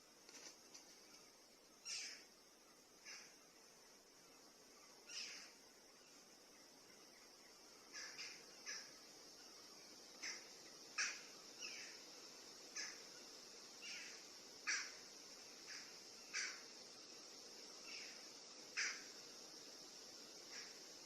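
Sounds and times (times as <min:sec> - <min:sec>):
high-pitched insect drone: 0:01.4 - 0:21.0.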